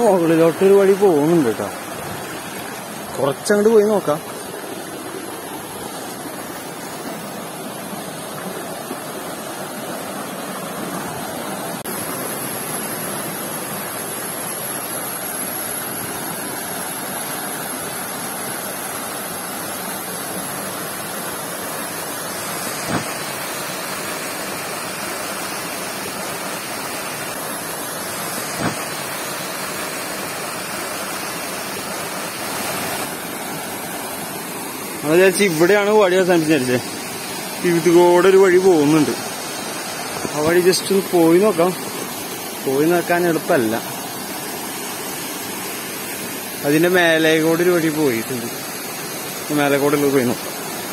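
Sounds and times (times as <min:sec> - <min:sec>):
waterfall rushing water: 0:00.0 - 0:50.9.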